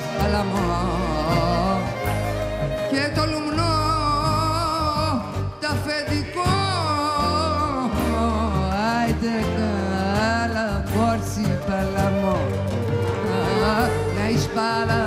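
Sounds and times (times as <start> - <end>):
bouzouki: 0.0 - 15.0.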